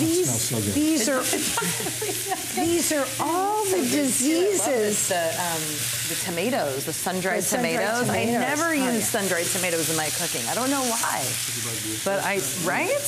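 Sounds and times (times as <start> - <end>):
pasta sizzling in a skillet: 0.0 - 13.0.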